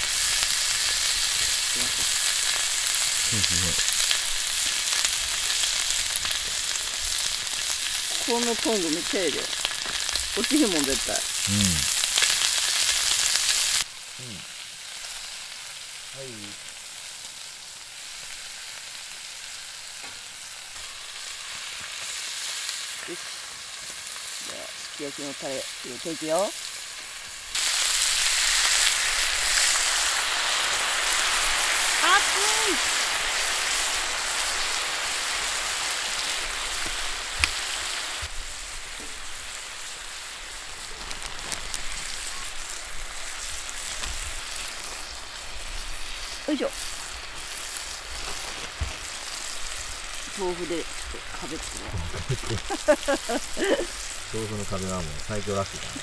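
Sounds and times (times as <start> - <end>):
meat sizzling on a griddle: 0.0 - 56.0.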